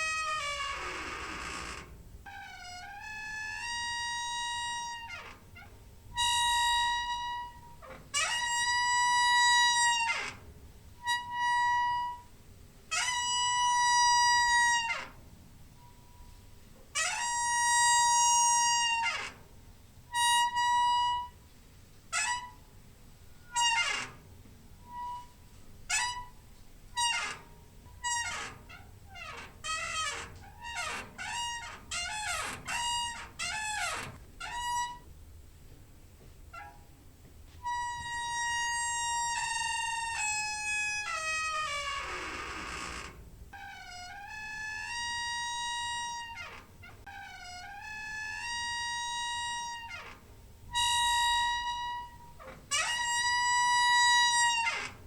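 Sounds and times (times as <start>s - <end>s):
door hinge squeaking: 0.0s - 19.5s, 20.1s - 21.5s, 22.1s - 35.1s, 36.5s - 36.9s, 37.6s - 55.0s.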